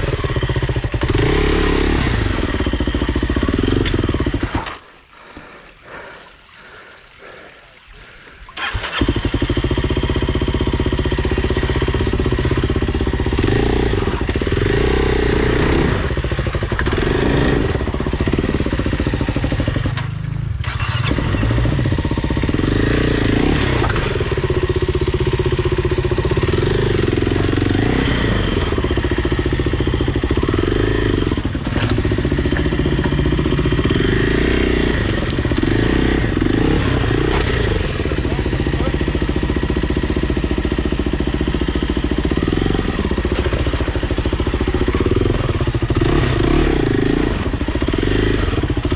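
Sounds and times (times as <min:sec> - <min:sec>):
dirt bike engine revving: 0:00.0 - 0:04.8, 0:08.6 - 0:20.0, 0:20.6 - 0:48.9.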